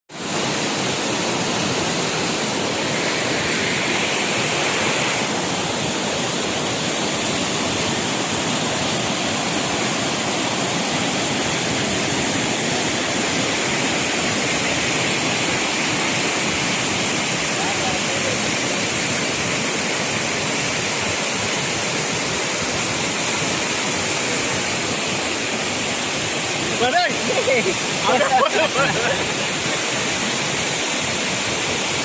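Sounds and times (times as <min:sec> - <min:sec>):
rushing water: 0:00.1 - 0:32.0.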